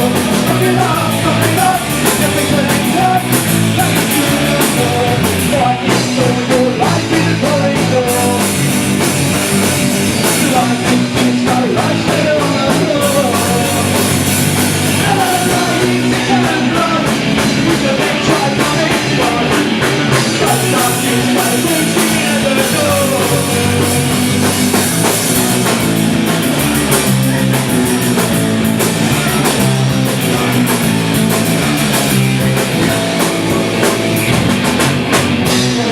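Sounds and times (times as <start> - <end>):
drum kit beat: 0.0 - 35.9
live rock band playing: 0.0 - 35.9.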